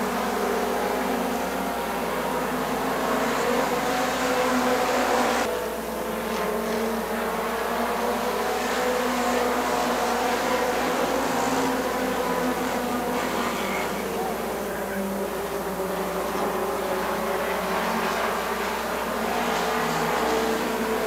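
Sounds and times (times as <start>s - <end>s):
racing car engines droning: 0.0s - 21.0s.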